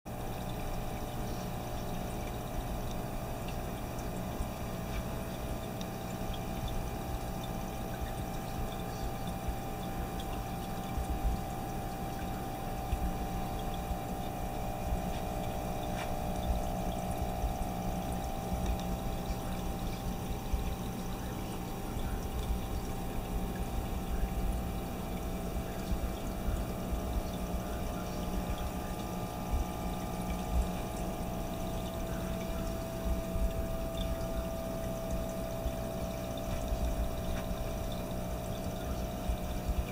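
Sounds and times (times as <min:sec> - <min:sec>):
aquarium filter bubbling: 0:00.1 - 0:39.9
steady hum: 0:00.1 - 0:39.9.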